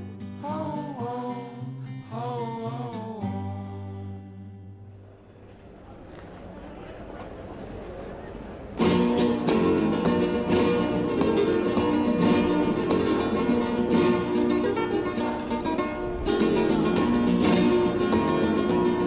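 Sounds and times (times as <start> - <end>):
flamenco acoustic guitar: 0.0 - 19.0.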